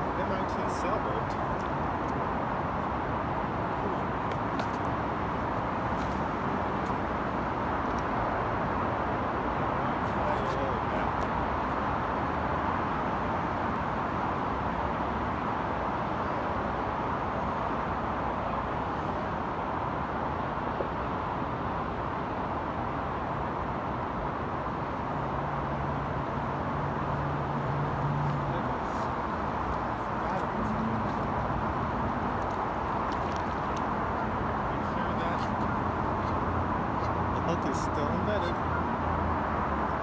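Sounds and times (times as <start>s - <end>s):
road traffic roar: 0.0s - 40.0s.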